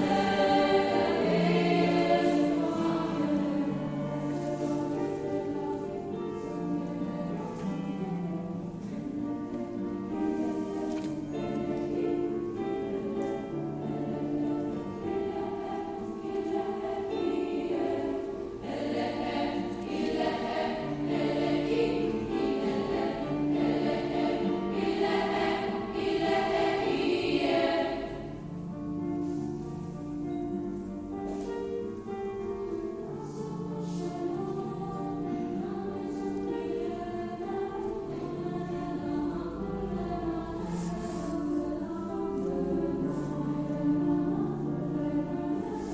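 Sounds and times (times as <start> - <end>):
choir singing slow chords: 0.0 - 45.9.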